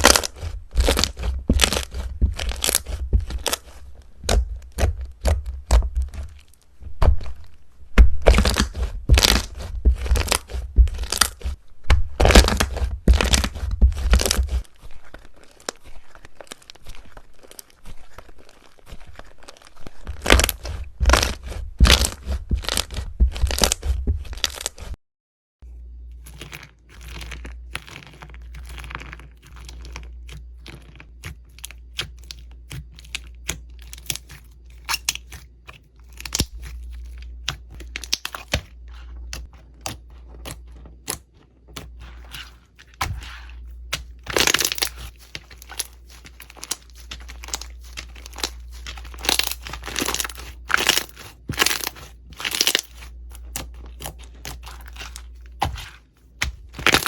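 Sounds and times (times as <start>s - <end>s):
slime crackling and popping: 0.0s - 6.6s, 7.3s - 24.9s, 26.3s - 57.0s
low steady hum: 0.0s - 25.0s, 25.6s - 57.0s.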